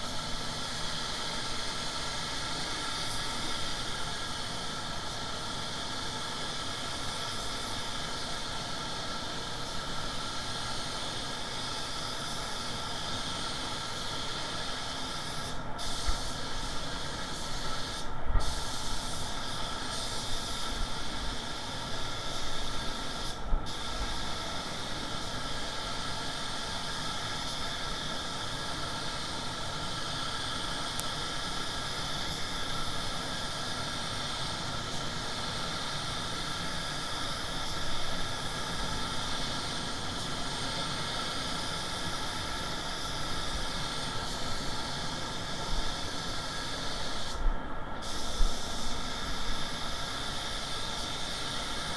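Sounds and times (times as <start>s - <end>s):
paint spray gun hissing: 0.0s - 51.9s.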